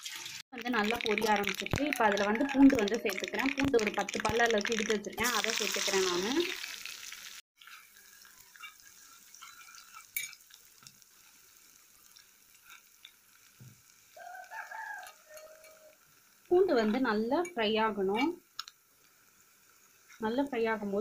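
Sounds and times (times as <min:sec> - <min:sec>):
garlic sizzling in hot oil: 0:00.0 - 0:21.0.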